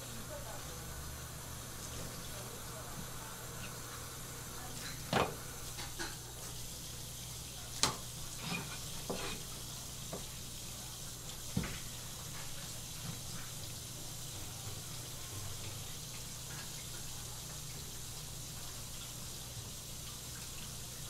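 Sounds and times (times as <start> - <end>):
running water hiss: 0.0 - 21.0.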